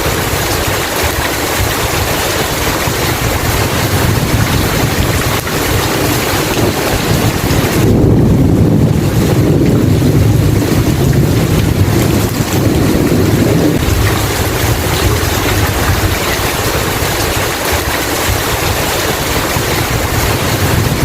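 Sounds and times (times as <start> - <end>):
rain hiss: 0.0 - 21.0
low rumble of thunder: 1.6 - 21.0.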